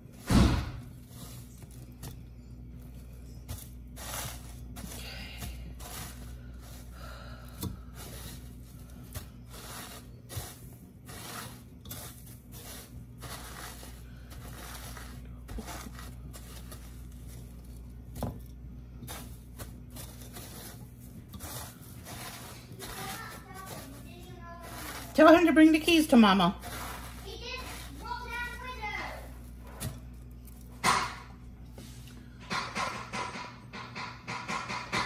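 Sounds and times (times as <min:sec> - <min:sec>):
breadcrumbs rustling in pan: 0:00.0 - 0:30.8.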